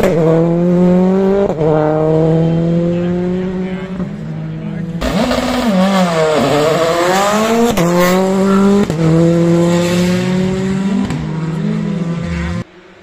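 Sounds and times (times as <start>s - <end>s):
rally car engine revving: 0.0s - 12.7s.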